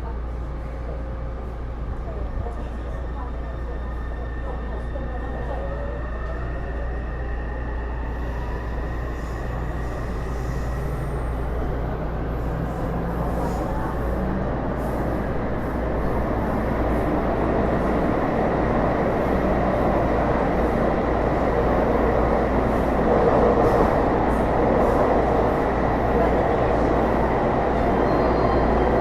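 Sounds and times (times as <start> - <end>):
train wheel and rail rumble: 0.0 - 29.0.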